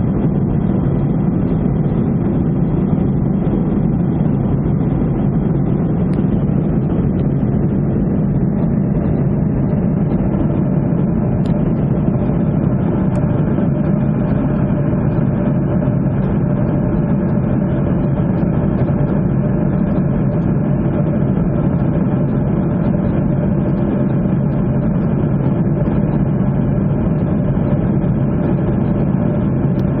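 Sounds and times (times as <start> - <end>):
faint steady hum: 0.0 - 30.0
jet cabin engine roar: 0.0 - 30.0.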